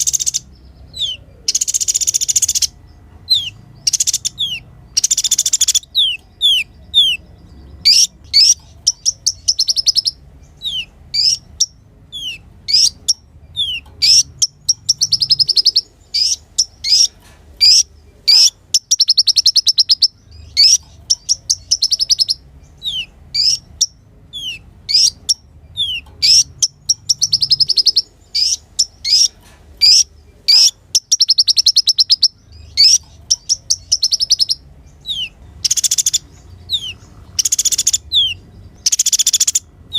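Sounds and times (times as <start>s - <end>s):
sunbird chirps and trills: 0.0s - 39.9s.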